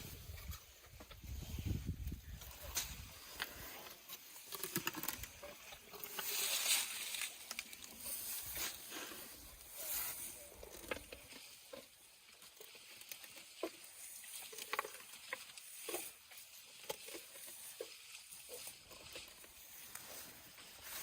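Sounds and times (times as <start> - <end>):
rustling of leafy branches: 0.0 - 21.0
small snaps and crackles: 2.4 - 9.1, 10.5 - 21.0.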